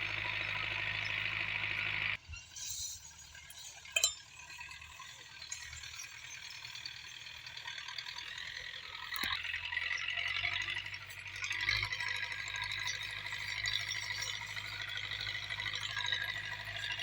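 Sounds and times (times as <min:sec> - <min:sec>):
faint low engine hum: 0:00.0 - 0:17.0
tractor metallic rattling: 0:00.0 - 0:17.0.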